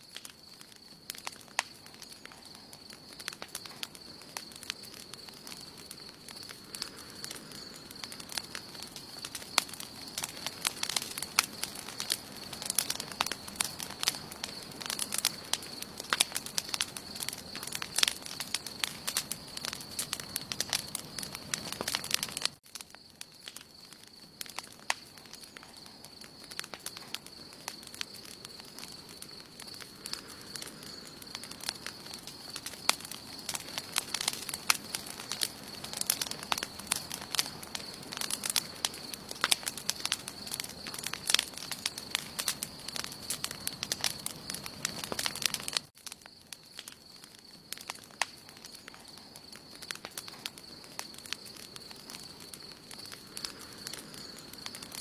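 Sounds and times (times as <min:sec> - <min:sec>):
campfire wood crackling and popping: 0:00.0 - 0:55.0
fire hissing: 0:00.0 - 0:55.0.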